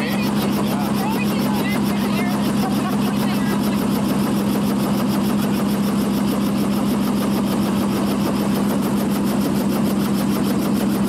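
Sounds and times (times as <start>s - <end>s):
helicopter engine hum: 0.0s - 11.0s
helicopter rotor blades beating: 0.0s - 11.0s.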